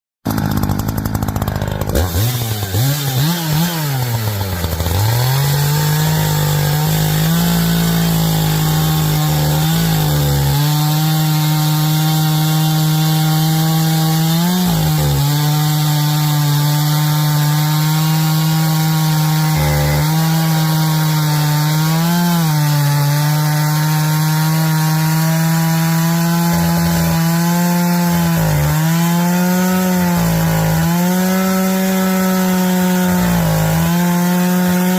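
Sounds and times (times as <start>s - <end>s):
chainsaw revving and cutting wood: 0.2s - 34.9s.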